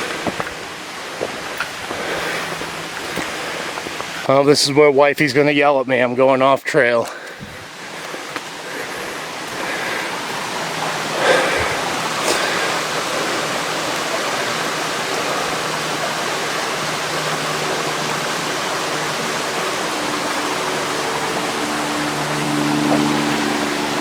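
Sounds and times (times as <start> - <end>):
mountain stream rushing: 0.0 - 6.1, 6.7 - 24.0.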